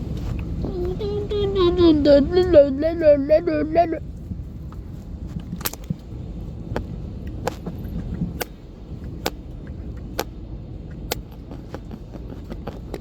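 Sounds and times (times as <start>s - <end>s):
airliner cabin low rumble: 0.0s - 13.0s.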